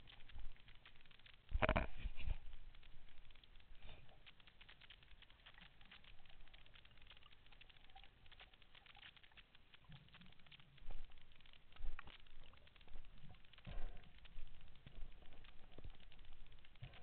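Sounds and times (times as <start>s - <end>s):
underwater crackle of clicks: 0.0s - 17.0s.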